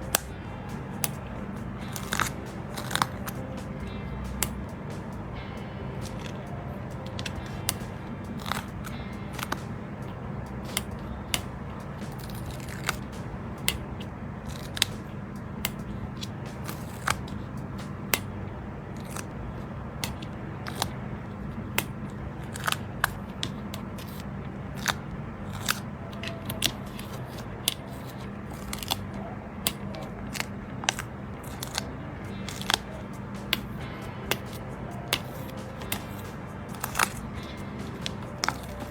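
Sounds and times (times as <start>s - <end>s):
packaging clicks and crackles: 0.0s - 38.9s
quiet background music: 0.0s - 38.9s.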